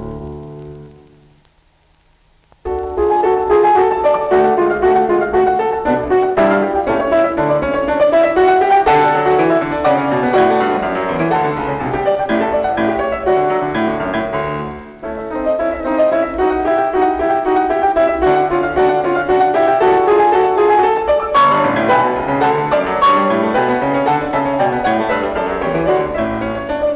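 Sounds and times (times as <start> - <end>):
classical keyboard music: 0.0 - 1.5, 2.6 - 26.9.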